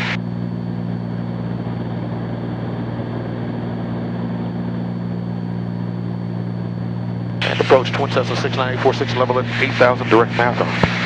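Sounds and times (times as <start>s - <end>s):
twin piston engines droning: 0.0s - 11.0s.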